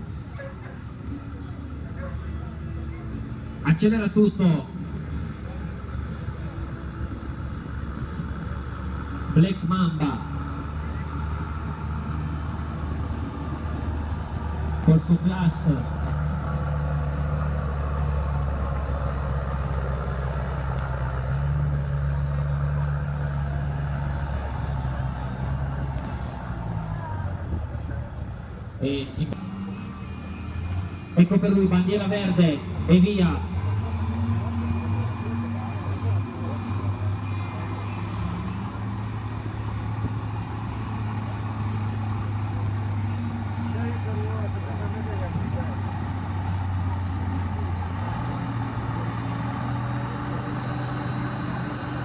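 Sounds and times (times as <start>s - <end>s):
tractor engine running at low revs: 0.0s - 52.0s.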